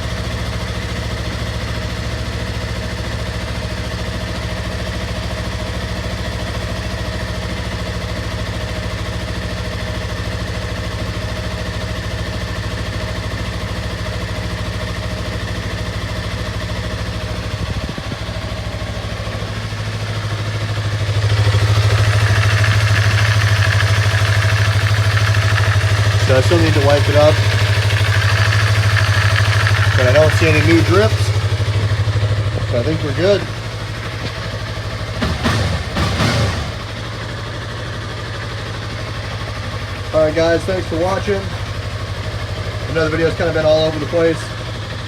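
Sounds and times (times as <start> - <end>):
motorcycle engine idling: 0.0 - 45.0.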